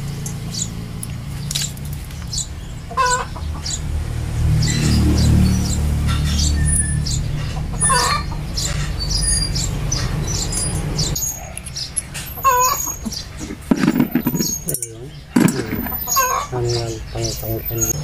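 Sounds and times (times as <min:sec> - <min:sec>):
chickens clucking: 0:01.5 - 0:18.0.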